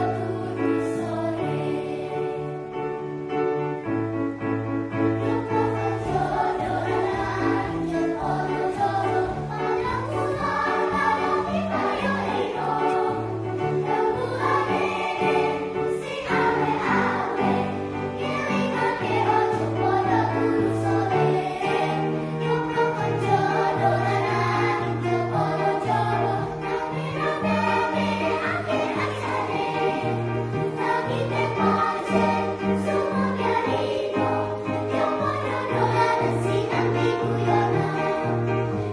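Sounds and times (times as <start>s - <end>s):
choir singing: 0.0s - 3.0s, 4.8s - 38.9s.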